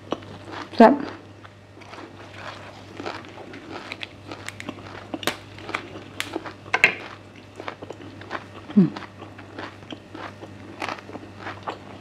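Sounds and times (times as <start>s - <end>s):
close chewing with crisp crunches: 0.0s - 12.0s.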